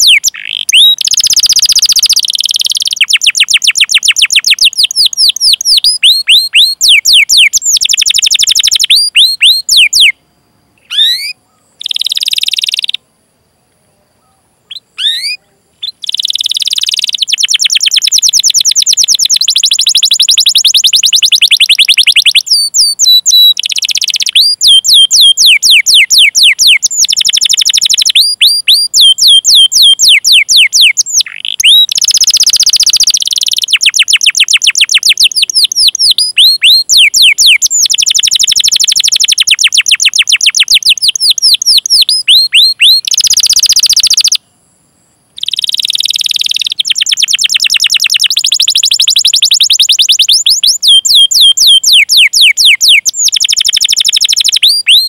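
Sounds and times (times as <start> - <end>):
canary singing: 0.0 - 10.2, 10.8 - 13.0, 14.3 - 44.4, 45.4 - 55.0.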